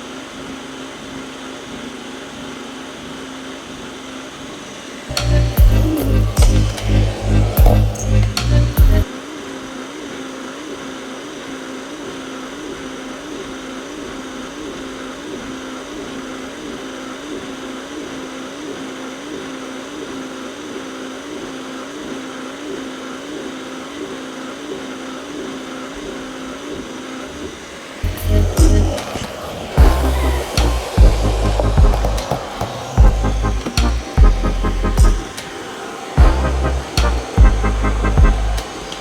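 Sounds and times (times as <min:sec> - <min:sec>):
robot vacuum whirring: 0:00.0 - 0:39.0.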